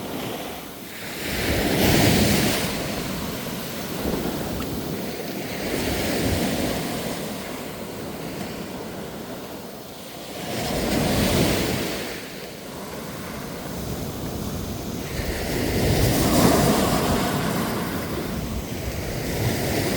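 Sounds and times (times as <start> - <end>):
ocean waves breaking: 0.0 - 19.9
wind rumble on microphone: 0.0 - 19.9.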